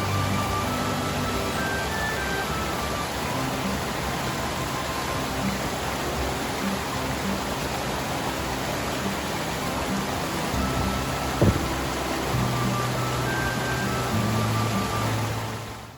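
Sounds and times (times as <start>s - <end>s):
stream water rushing: 0.0s - 15.9s.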